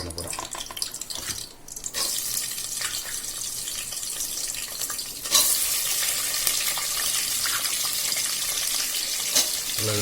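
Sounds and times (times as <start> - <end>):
onions sizzling in hot oil: 0.3 - 10.0.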